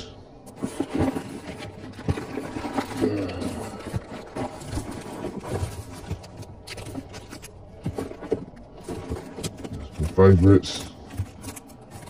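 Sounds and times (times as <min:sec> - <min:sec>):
cardboard rustling: 0:00.0 - 0:12.0
plastic bags crinkling: 0:00.4 - 0:12.0.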